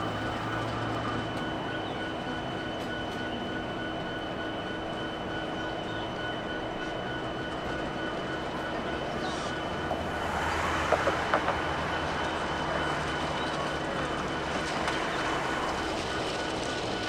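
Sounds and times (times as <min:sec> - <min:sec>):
diesel locomotives rumbling: 0:00.0 - 0:17.0
faint steady whines: 0:00.0 - 0:17.0.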